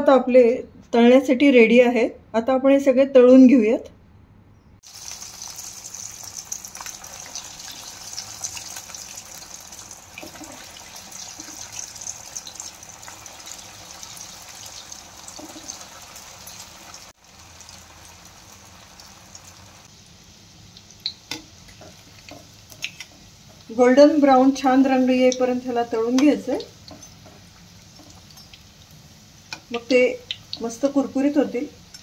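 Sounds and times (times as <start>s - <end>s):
food deep-frying in oil: 4.8s - 32.0s.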